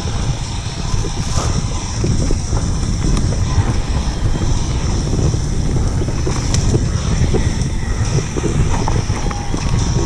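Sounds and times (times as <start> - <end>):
bike rattling over rough ground: 0.0 - 10.0
wind rushing over microphone: 0.0 - 10.0.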